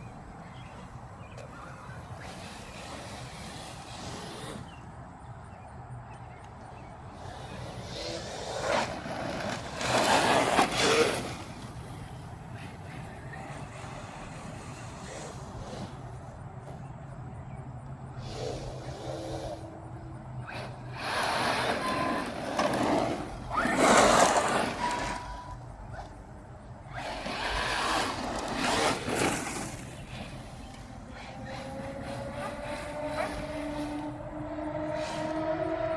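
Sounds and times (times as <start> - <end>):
radio-controlled truck motor and tyres: 0.0 - 35.9.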